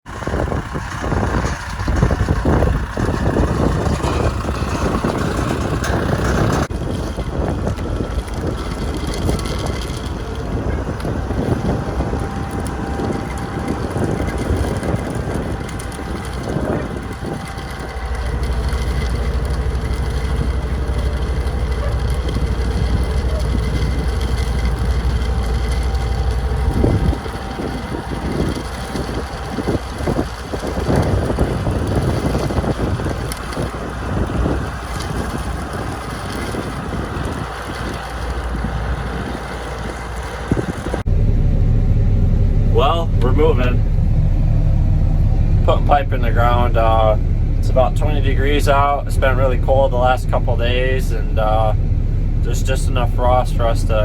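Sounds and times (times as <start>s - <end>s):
heavy machinery engines running: 0.0s - 54.0s
low engine drone: 0.0s - 54.0s.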